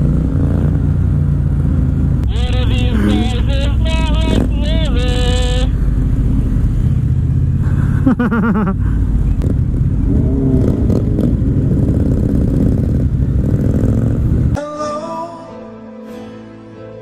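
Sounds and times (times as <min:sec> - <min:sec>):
motorcycle engine rumbling: 0:00.0 - 0:14.6.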